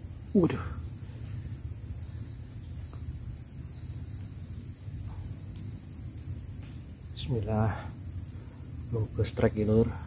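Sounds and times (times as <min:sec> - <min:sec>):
insects singing: 0:00.0 - 0:10.0.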